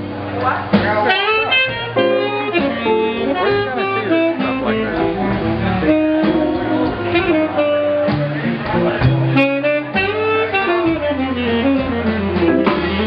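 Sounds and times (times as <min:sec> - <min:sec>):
drums: 0:00.0 - 0:13.0
electric guitar: 0:00.0 - 0:13.0
saxophone melody: 0:01.0 - 0:13.0.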